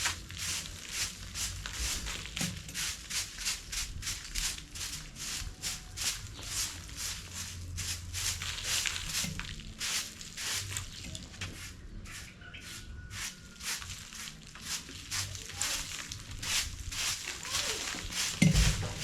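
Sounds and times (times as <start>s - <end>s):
scraping strokes: 0.4s - 19.0s.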